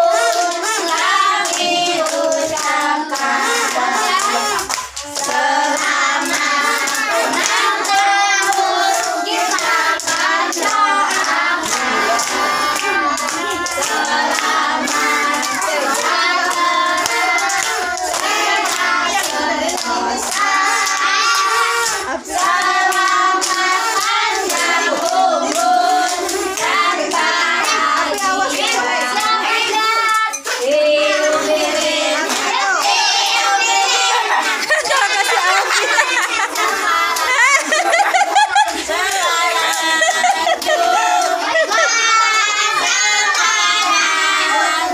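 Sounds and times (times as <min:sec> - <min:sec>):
hands clapping along: 0:00.0 - 0:44.9
women and children singing: 0:00.0 - 0:44.9.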